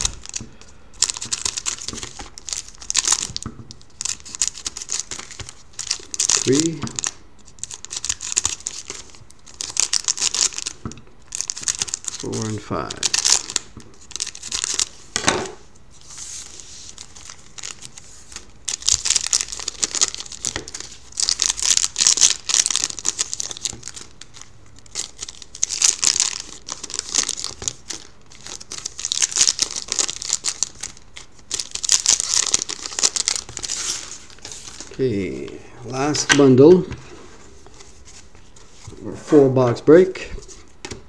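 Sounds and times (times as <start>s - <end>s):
foil wrappers crinkling and tearing: 0.0s - 15.2s, 16.0s - 36.2s.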